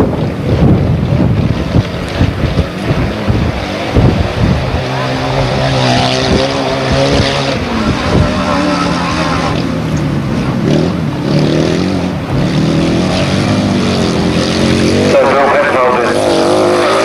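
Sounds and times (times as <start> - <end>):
sidecar engines revving hard: 0.0 - 17.0.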